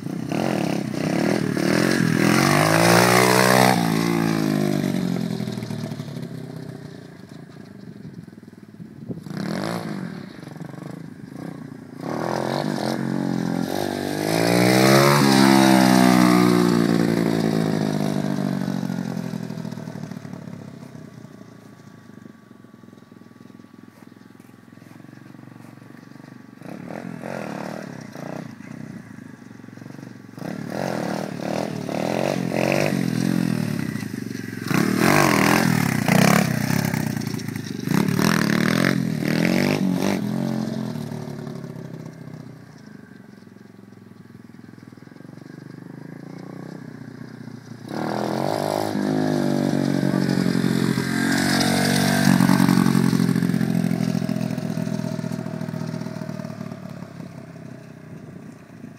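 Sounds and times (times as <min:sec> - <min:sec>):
motorbike engine revving: 0:00.0 - 0:07.8, 0:09.2 - 0:21.9, 0:24.7 - 0:42.7, 0:45.2 - 0:58.9.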